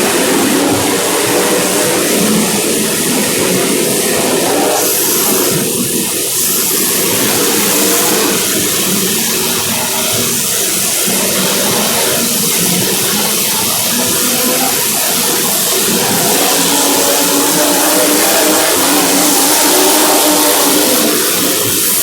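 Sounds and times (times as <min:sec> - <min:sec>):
small racing engines: 0:00.0 - 0:22.0.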